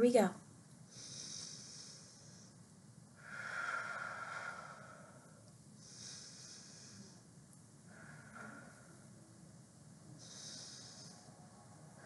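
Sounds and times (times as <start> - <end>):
woman breathing deeply: 0.9 - 12.0.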